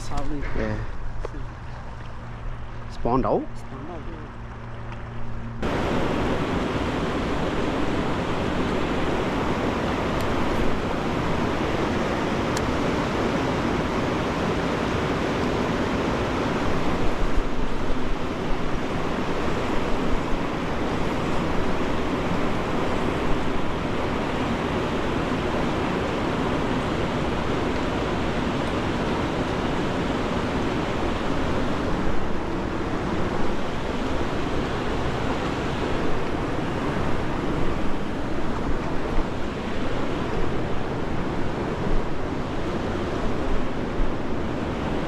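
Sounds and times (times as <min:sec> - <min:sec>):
river water rushing: 0:05.6 - 0:45.0.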